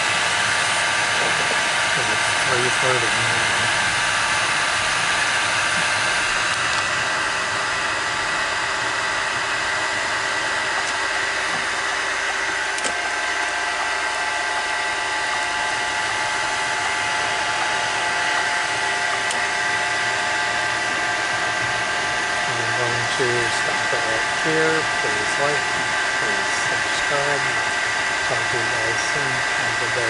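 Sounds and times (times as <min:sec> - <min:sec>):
car heater blower rush: 0:00.0 - 0:30.0
engine whining tones: 0:00.0 - 0:30.0.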